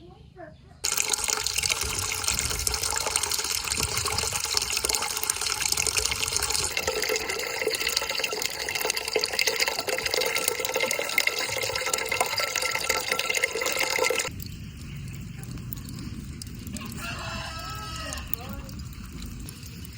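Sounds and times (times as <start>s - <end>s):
water running and splashing: 0.8s - 19.9s.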